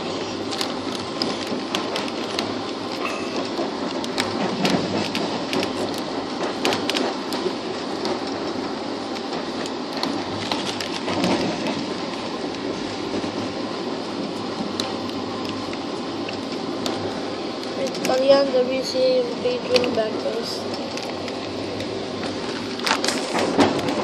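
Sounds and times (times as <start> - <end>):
train wheels rumbling on rail: 0.0 - 24.0
sharp clicks and clatters: 0.4 - 13.4, 14.6 - 24.0.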